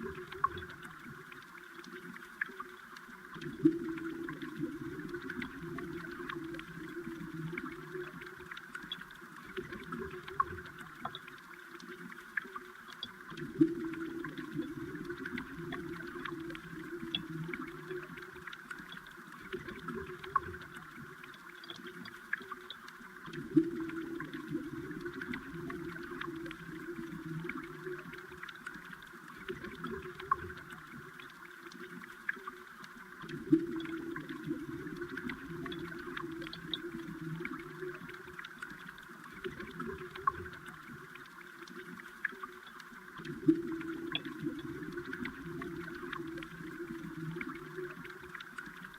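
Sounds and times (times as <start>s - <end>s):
underwater stream gurgling: 0.0s - 48.9s.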